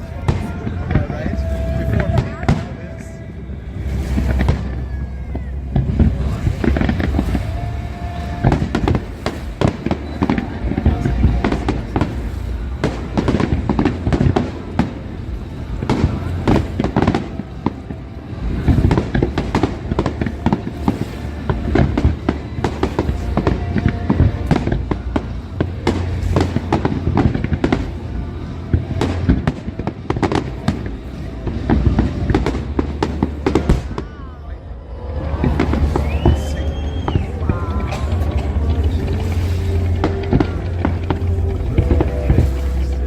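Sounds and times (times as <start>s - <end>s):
deep fireworks booms: 0.0s - 43.0s
fireworks bursting and crackling: 0.0s - 43.0s.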